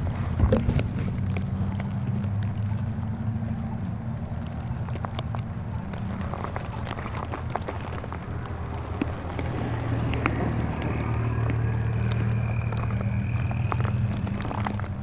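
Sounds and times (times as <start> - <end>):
low engine drone: 0.0 - 15.0
sharp clicks and ticks: 0.0 - 15.0.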